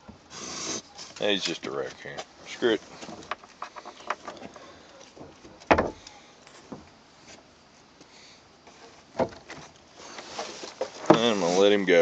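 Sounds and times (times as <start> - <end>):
faint rustling: 0.9 - 12.0.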